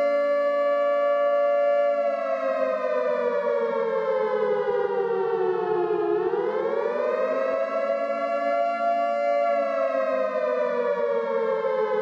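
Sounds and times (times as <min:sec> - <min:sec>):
warning siren sounding a chord: 0:00.0 - 0:12.0.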